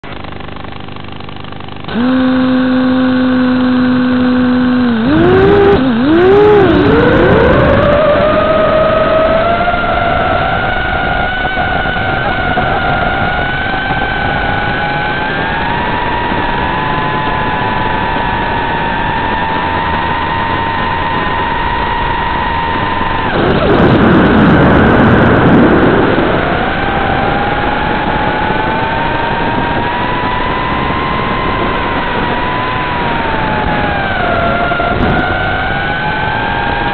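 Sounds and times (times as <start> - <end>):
drone motors whining: 0.0 - 36.9.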